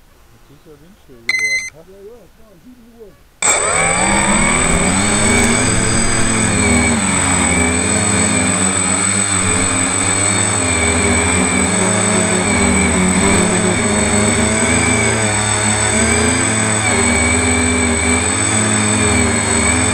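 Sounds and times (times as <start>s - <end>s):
steady high whine: 1.3s - 1.9s, 3.4s - 19.9s
drone motors and propellers: 3.4s - 19.9s.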